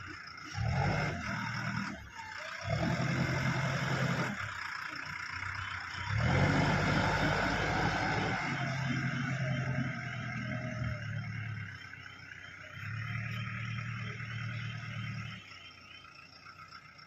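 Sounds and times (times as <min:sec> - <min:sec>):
excavator diesel engine surging: 0:00.0 - 0:17.0.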